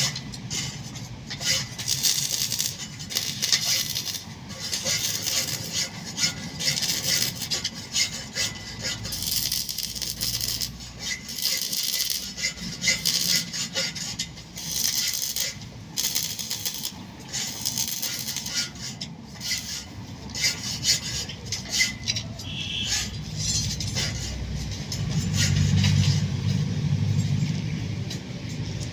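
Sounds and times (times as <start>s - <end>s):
rough scraping and rubbing: 0.0s - 27.6s.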